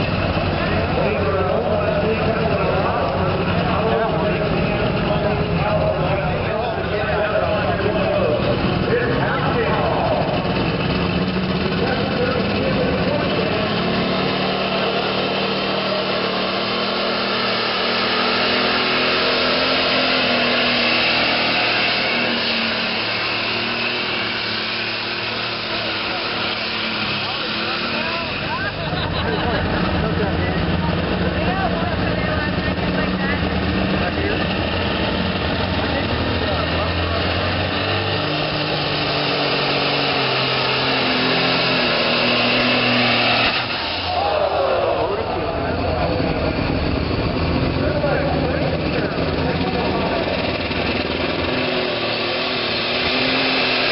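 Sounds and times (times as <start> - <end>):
tractor diesel engine roaring: 0.0 - 53.9.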